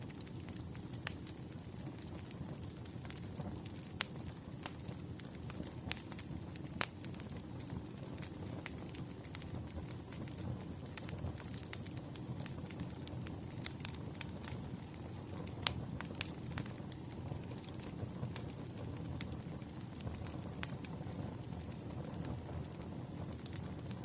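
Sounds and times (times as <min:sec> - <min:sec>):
firewood popping and snapping: 0:00.0 - 0:24.0
low rush of flames: 0:00.0 - 0:24.0.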